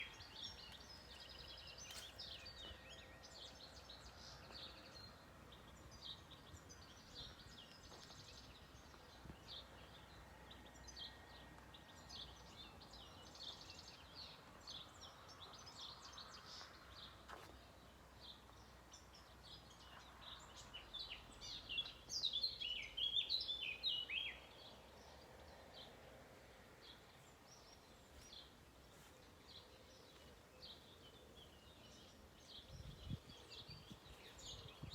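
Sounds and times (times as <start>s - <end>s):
small birds chirping and singing: 0.0s - 26.0s, 26.8s - 34.9s.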